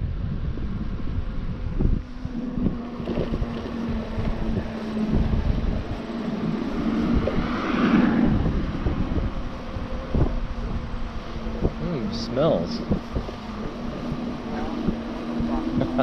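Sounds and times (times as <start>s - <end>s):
steady hum: 0.0s - 16.0s
wind buffeting microphone: 0.0s - 16.0s.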